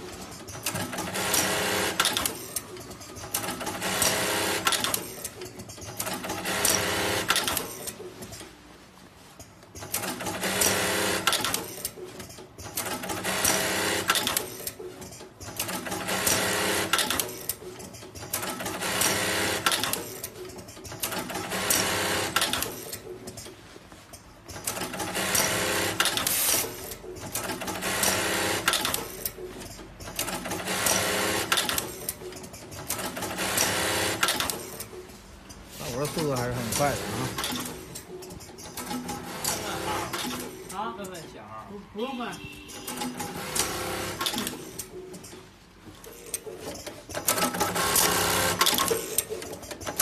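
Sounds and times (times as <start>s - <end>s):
sewing machine stitching and clattering: 0.0s - 8.5s, 9.4s - 41.4s, 42.4s - 50.0s.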